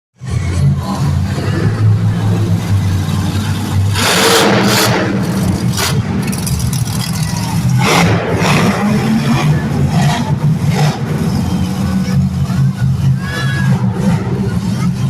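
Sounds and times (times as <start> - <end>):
truck engine revving: 0.2 - 15.0.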